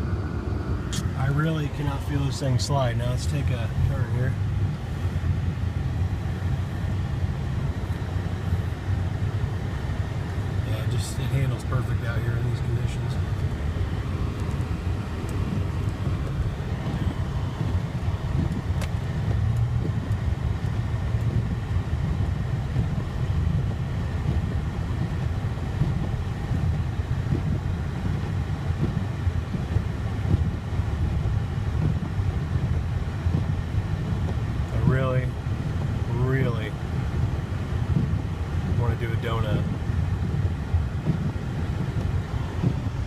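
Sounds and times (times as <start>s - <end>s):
vehicle engine and tyres rumbling: 0.0s - 43.0s.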